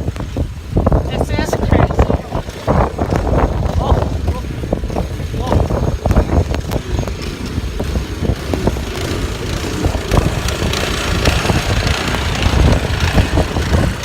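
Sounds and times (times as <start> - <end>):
car driving through snowstorm: 0.0 - 14.0.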